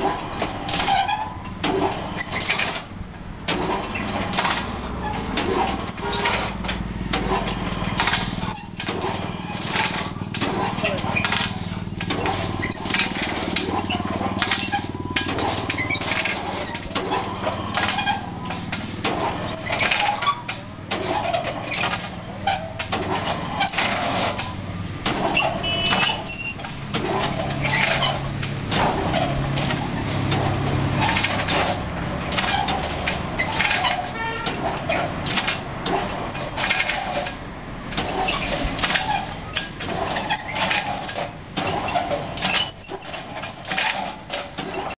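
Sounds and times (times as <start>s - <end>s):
machine parts clattering and knocking: 0.0s - 44.9s.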